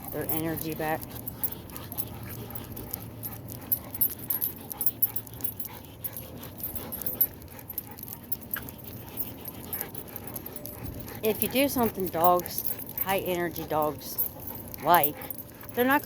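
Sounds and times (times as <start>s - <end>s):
leash gear clicking and jingling: 0.0s - 16.0s.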